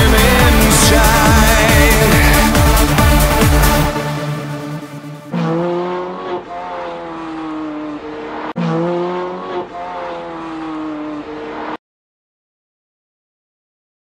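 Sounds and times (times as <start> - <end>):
car engine running hard: 0.0 - 11.8.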